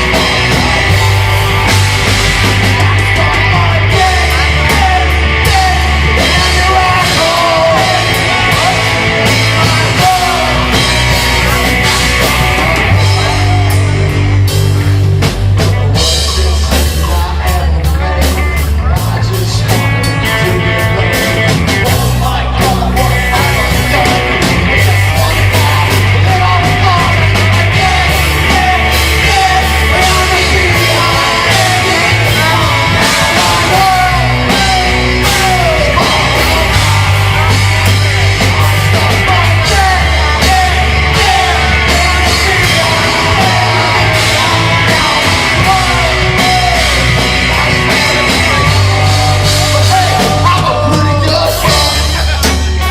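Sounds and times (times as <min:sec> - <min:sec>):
sung and shouted vocals: 0:00.0 - 0:14.2, 0:16.0 - 0:52.9
bass line: 0:00.0 - 0:52.9
punk rock song with band: 0:00.0 - 0:52.9.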